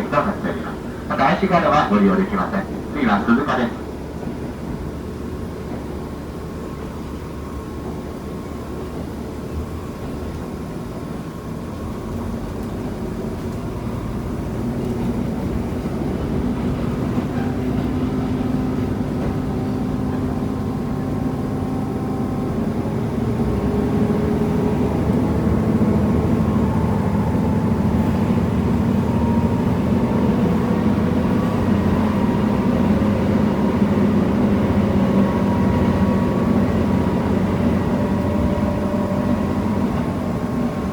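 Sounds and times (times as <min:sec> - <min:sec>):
railcar diesel engine: 0:00.0 - 0:40.9.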